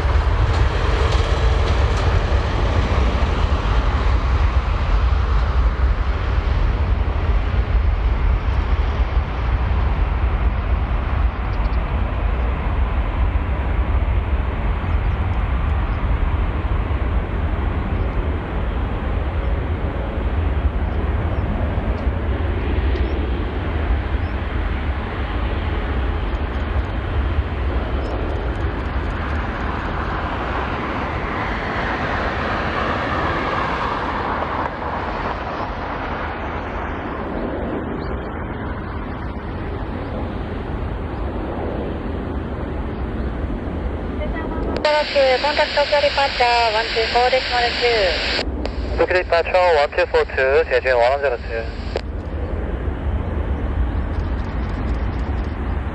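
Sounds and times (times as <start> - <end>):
jet engine deep rumble: 0.0 - 55.9.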